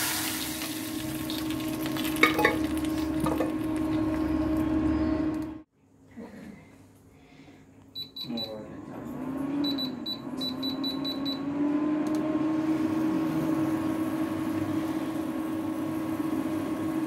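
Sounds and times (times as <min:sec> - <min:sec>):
cooktop electric hum: 0:00.0 - 0:17.0.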